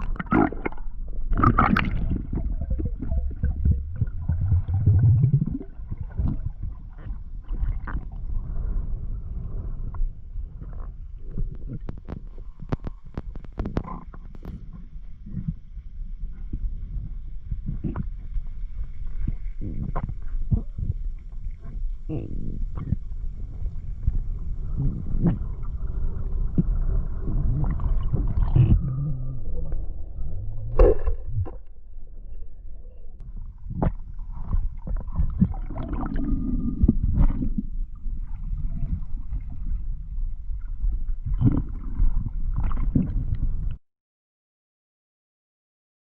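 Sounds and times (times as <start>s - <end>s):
water rumbling and gurgling: 0.0s - 43.8s.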